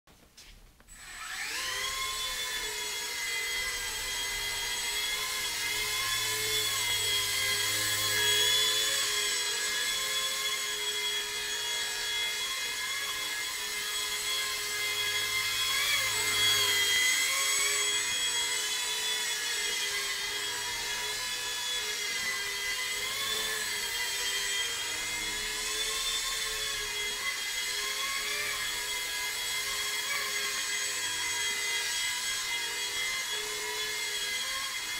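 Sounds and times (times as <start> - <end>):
rc helicopter motor and rotor whine: 0.9 - 34.9.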